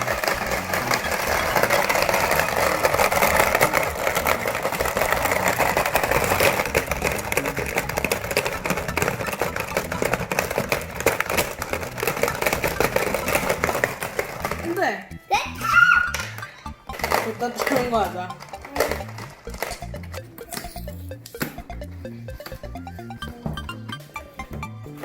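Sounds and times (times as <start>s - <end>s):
rapid plastic clicks: 0.0s - 14.9s, 16.1s - 23.3s.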